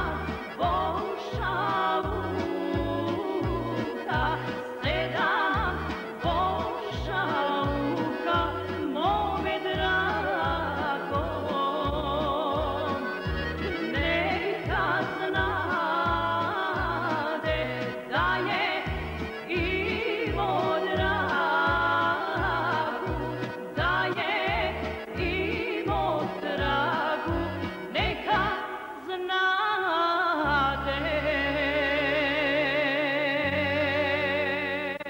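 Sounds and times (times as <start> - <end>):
accordion: 0.0 - 29.1, 30.4 - 35.0
woman singing folk song: 0.0 - 35.0.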